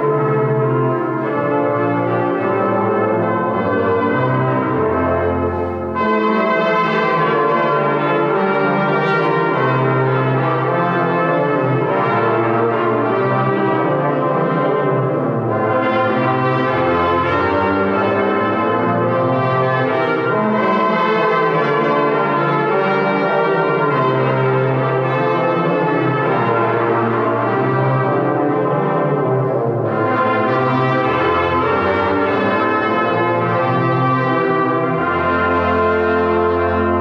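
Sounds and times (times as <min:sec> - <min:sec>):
brass choir playing: 0:00.0 - 0:37.0
tuba low notes: 0:00.0 - 0:37.0.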